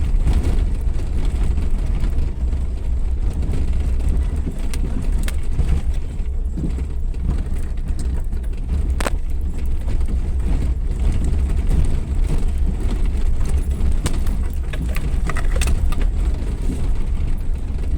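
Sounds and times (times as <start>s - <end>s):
engine and driving rumble: 0.0s - 17.9s
sharp knocks and rattles: 0.0s - 17.9s.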